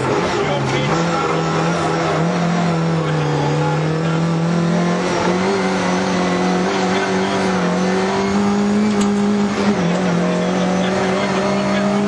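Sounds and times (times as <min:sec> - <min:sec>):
car engine at high revs: 0:00.0 - 0:12.0
road noise: 0:00.0 - 0:12.0.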